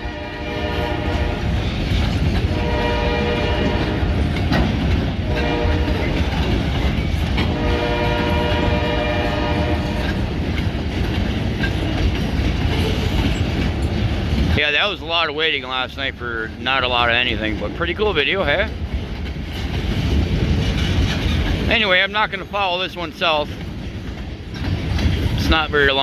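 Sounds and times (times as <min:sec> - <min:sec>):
train wheels clacking on rails: 0:00.0 - 0:26.0.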